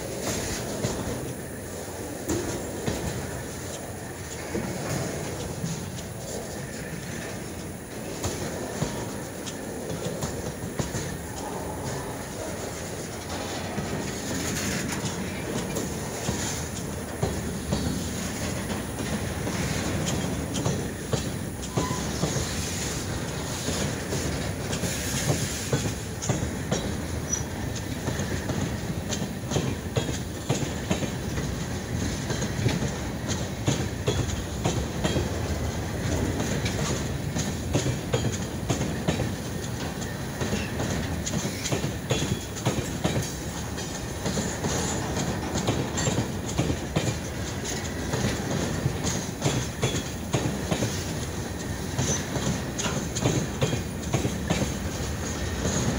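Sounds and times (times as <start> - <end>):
train cars rumbling: 0.0 - 55.9
train wheels clacking over rail joints: 0.0 - 55.9.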